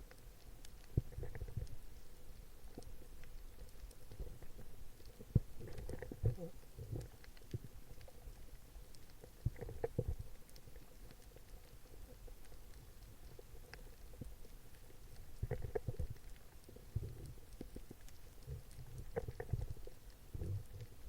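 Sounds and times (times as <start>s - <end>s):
sharp clicks underwater: 0.0s - 21.0s
underwater rumble: 0.0s - 21.0s.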